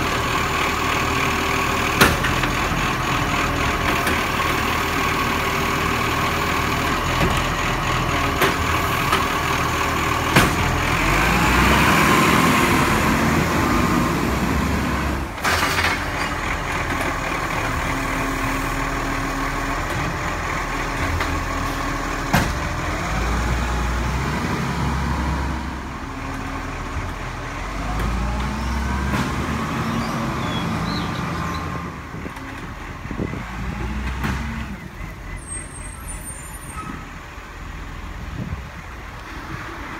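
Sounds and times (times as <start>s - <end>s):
garbage truck diesel engine revving: 0.0s - 39.9s
hydraulic arm lifting bins: 1.7s - 37.1s.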